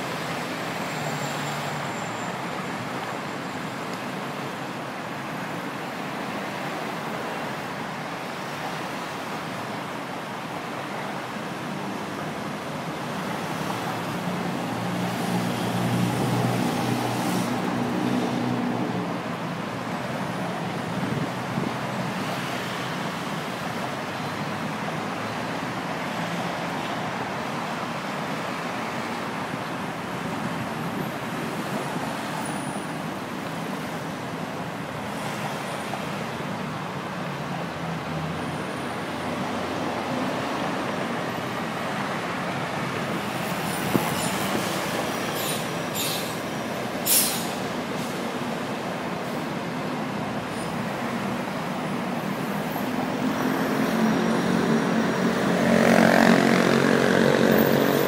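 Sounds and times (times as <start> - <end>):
dense traffic: 0.0 - 58.0.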